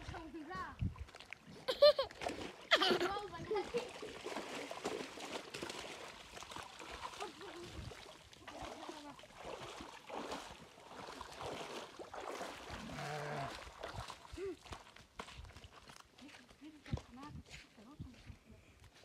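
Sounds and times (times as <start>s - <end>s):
water sloshing and splashing: 0.0s - 17.3s.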